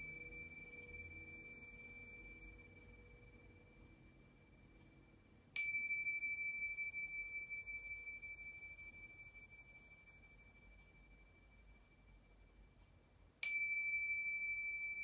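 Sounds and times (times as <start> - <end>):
small metal chime ringing: 0.0 - 4.8, 5.6 - 12.0, 13.4 - 15.0.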